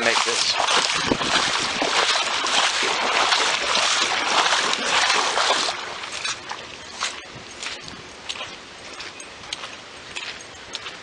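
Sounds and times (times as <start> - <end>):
legs sloshing through water: 0.0 - 11.0.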